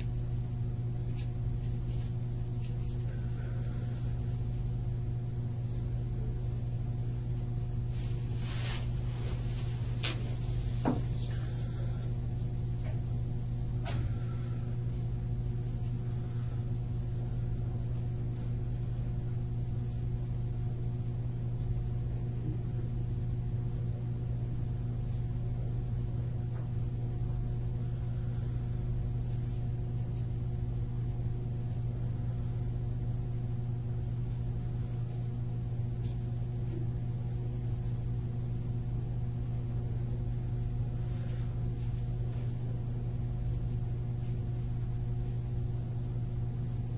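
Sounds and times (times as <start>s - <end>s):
low room hum: 0.0s - 46.9s.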